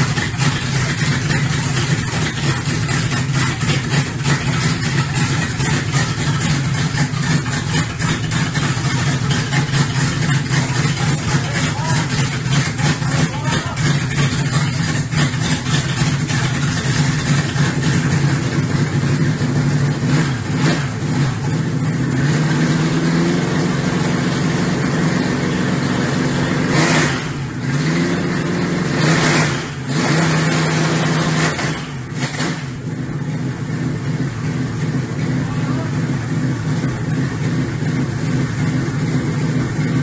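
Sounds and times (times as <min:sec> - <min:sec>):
engine running on a stand: 0:00.0 - 0:40.0.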